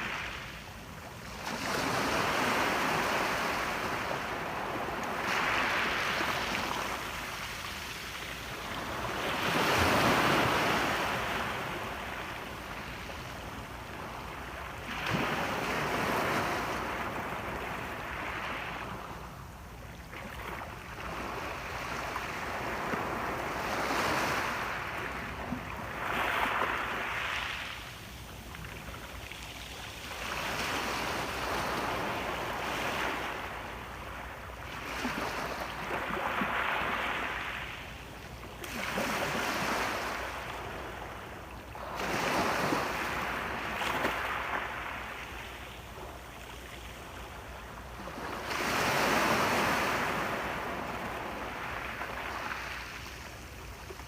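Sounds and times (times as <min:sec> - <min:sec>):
sea waves breaking on shore: 0:00.0 - 0:19.3, 0:20.1 - 0:54.0.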